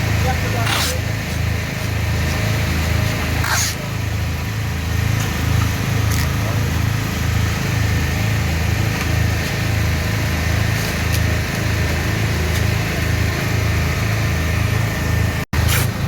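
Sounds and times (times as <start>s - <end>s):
engine running with pulsing throb: 0.0s - 16.0s.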